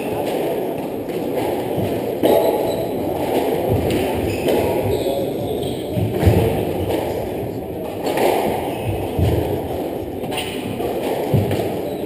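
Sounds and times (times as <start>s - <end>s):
dull thuds from squash court: 0.0s - 12.0s
murmur of spectators chatting: 0.0s - 12.0s.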